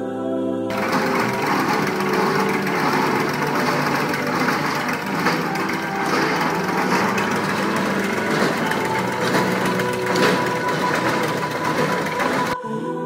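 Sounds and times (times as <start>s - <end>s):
small engine running: 0.7s - 12.6s.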